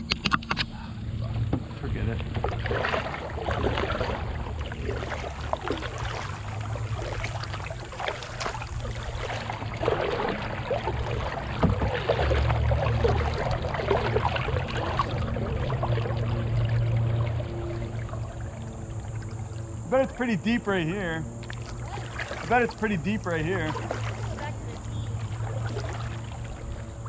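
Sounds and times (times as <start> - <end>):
kayak paddle splashing: 0.0 - 27.0
steady low rumble: 0.0 - 27.0.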